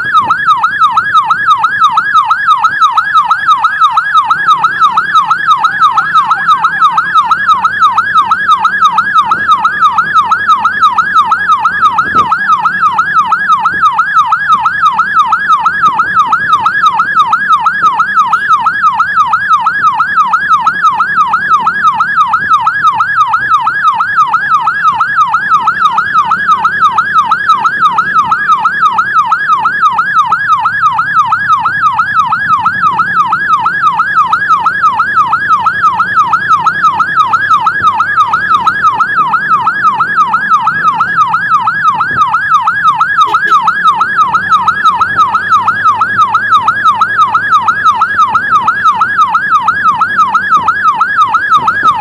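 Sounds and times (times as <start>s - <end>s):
faint low vehicle rumble: 0.0s - 52.0s
siren yelping: 0.0s - 52.0s.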